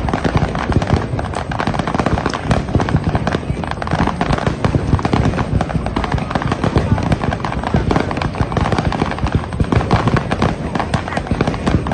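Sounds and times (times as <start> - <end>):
fireworks crackling: 0.0 - 11.9.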